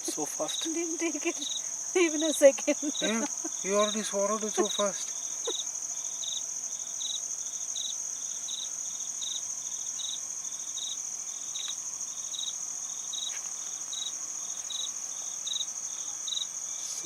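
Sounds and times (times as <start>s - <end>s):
insect chirping in pulses: 0.0s - 17.0s
insect high-pitched drone: 0.0s - 17.0s.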